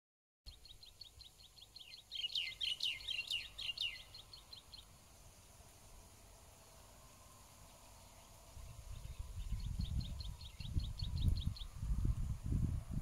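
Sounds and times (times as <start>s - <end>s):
songbird chirping: 0.5s - 12.2s.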